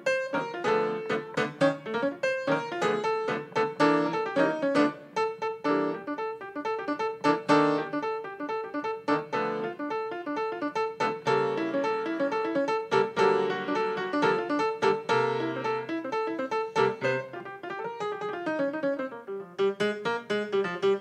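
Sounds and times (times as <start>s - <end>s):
grand piano playing: 0.0s - 21.0s.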